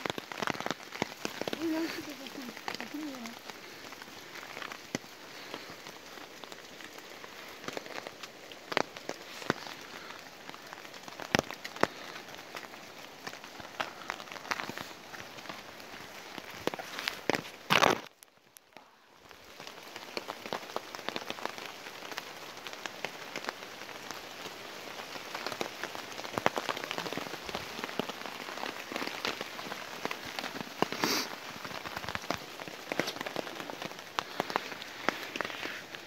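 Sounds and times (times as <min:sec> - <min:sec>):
rain pattering on jacket and tarp: 0:00.0 - 0:36.0.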